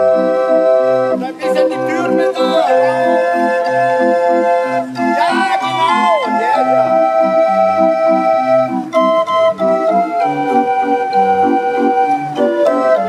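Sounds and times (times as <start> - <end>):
barrel organs playing a tune: 0.0 - 13.0.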